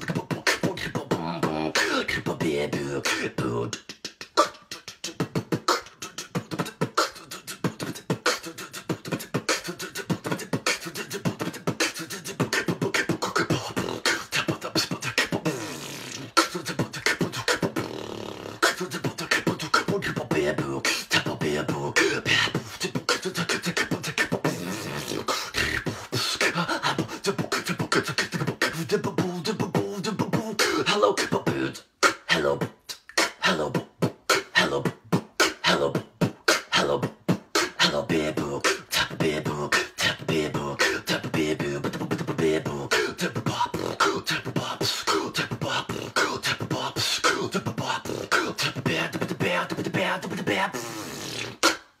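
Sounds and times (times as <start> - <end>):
person beatboxing: 0.0 - 52.0.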